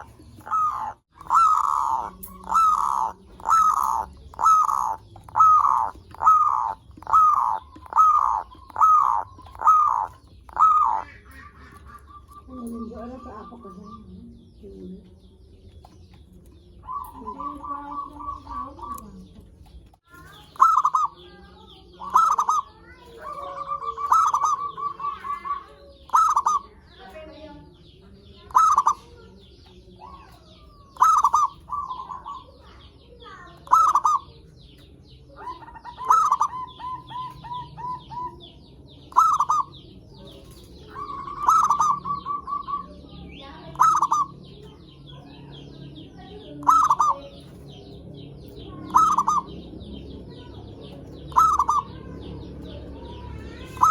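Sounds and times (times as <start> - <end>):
dove cooing and trilling: 0.0 - 19.5, 20.2 - 53.9.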